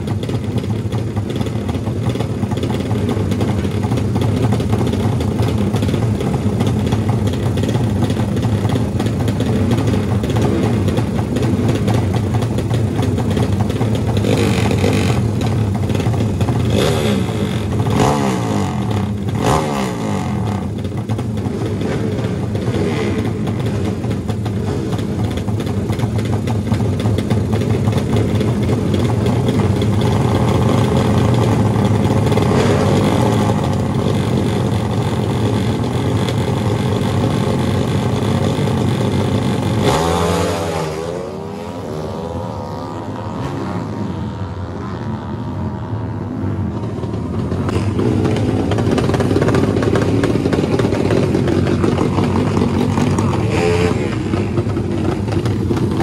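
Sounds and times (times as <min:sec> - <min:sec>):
motorcycle engines idling and revving: 0:00.0 - 0:56.0.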